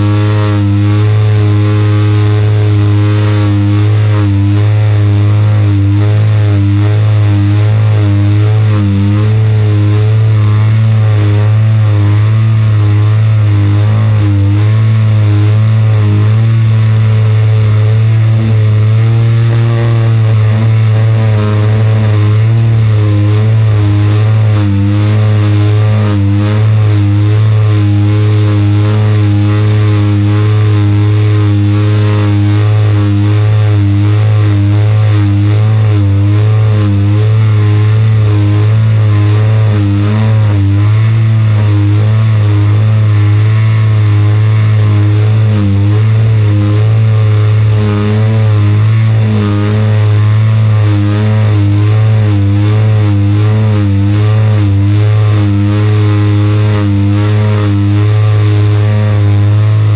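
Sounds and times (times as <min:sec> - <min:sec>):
two-stroke model aircraft engine: 0:00.0 - 0:59.9.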